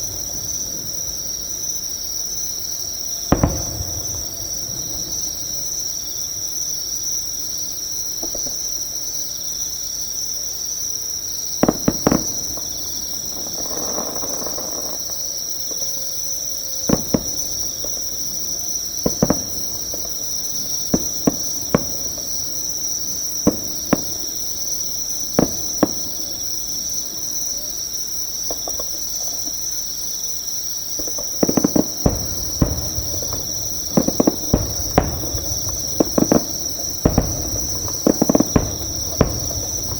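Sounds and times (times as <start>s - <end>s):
distant fireworks bursts: 0.0s - 9.0s, 11.2s - 29.6s, 31.0s - 39.9s
insects chirring: 0.0s - 39.9s.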